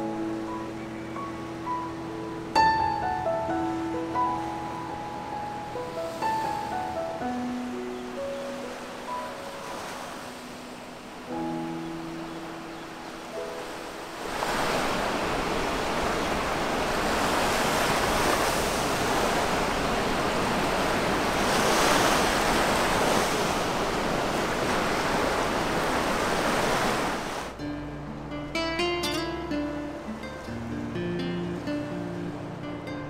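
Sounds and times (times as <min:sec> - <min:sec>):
waves breaking on a beach: 0:00.0 - 0:27.6.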